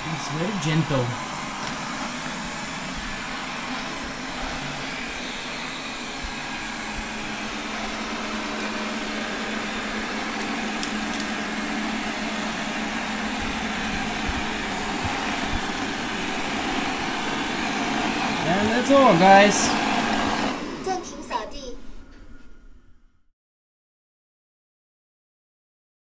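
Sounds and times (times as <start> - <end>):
robot vacuum cleaners whirring: 0.0 - 22.4.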